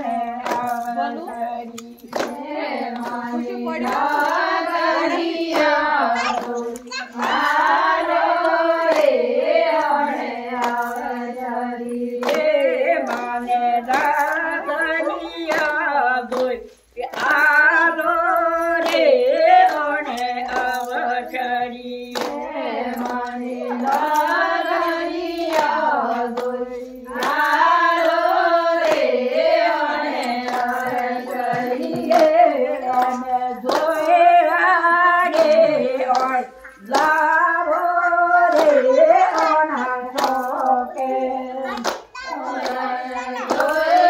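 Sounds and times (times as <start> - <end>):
women singing together: 0.0 - 44.0
hands clapping in time: 0.4 - 11.2, 11.9 - 21.1, 21.7 - 44.0.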